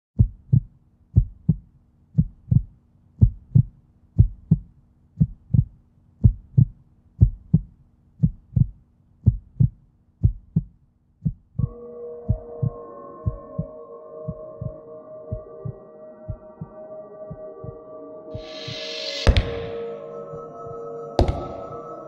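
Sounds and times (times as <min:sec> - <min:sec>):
heartbeat thumps: 0:00.2 - 0:16.7, 0:17.3 - 0:17.8, 0:18.4 - 0:19.8, 0:21.2 - 0:21.8.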